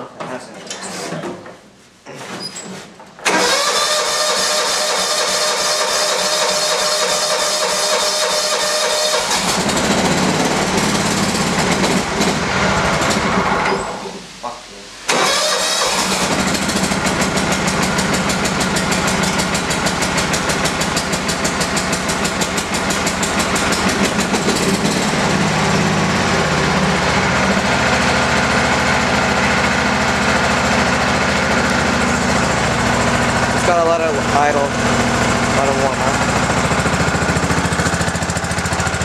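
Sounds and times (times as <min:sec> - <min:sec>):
lawn tractor engine idling: 0:03.2 - 0:13.6, 0:15.1 - 0:39.0.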